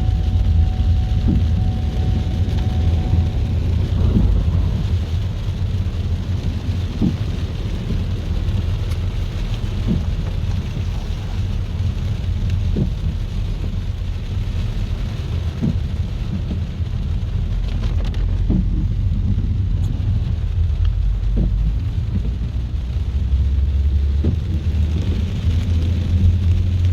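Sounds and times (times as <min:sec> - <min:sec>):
heavy rain hissing: 0:00.0 - 0:26.9
steady deep rumble: 0:00.0 - 0:26.9.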